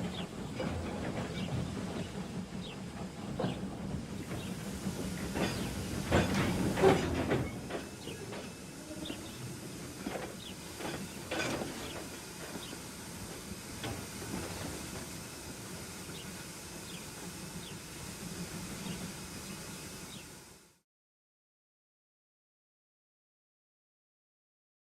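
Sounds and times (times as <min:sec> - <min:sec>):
steam hissing: 0:00.0 - 0:20.8.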